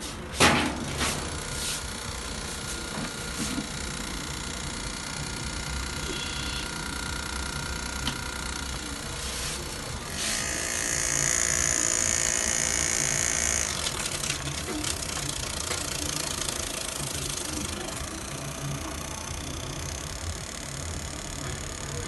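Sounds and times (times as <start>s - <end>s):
constant background hum: 0.0s - 22.0s
small electric machine whirring: 0.7s - 22.0s.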